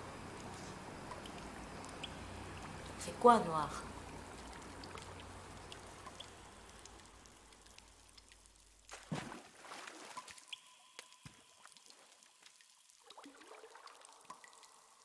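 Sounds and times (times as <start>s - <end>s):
faint trickling water: 0.0s - 15.0s
water drips: 0.0s - 15.0s.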